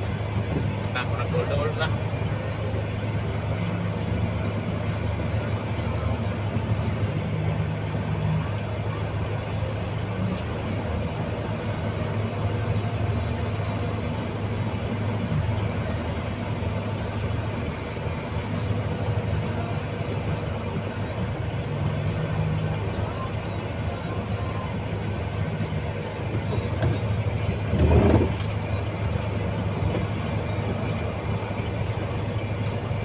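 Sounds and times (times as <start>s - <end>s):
truck diesel engine droning: 0.0s - 33.0s.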